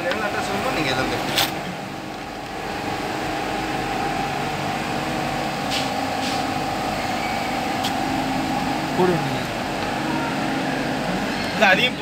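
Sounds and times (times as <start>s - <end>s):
machine hum with whining tone: 0.0s - 12.0s.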